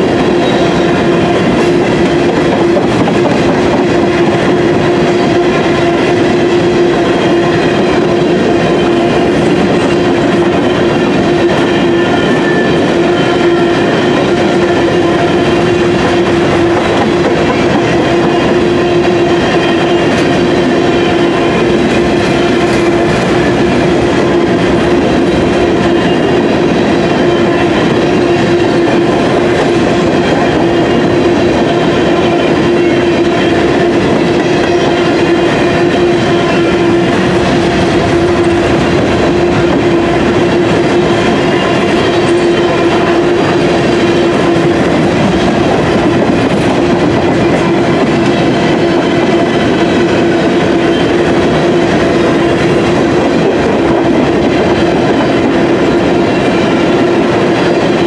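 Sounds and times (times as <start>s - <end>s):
train cars rumbling past: 0.0s - 58.0s.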